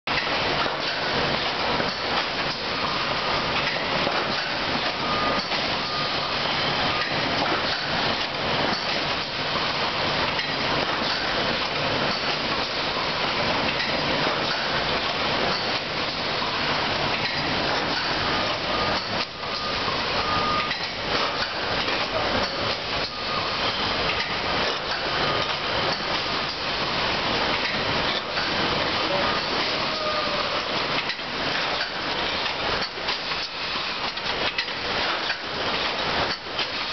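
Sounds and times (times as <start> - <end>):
machinery clattering and rattling: 0.1 - 29.8.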